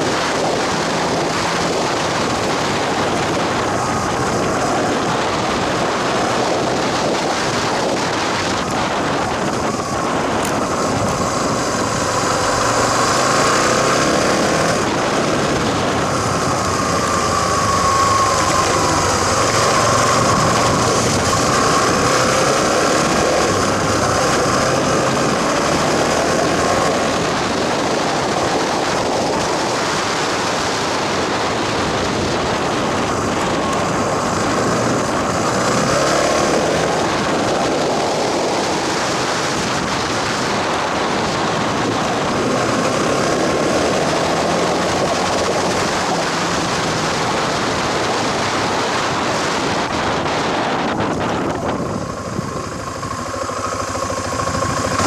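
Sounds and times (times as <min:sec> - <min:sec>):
small motorcycle engine revving: 0:00.0 - 0:55.0
wind noise: 0:00.0 - 0:55.0.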